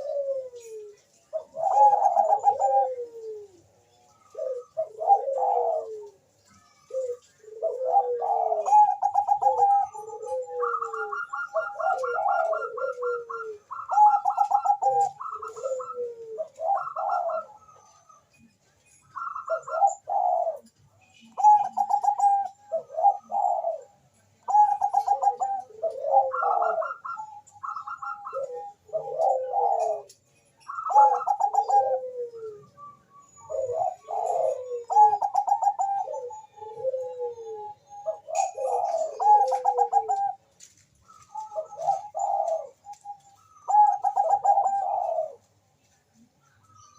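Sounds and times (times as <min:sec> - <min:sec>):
dove cooing: 0:00.0 - 0:46.9.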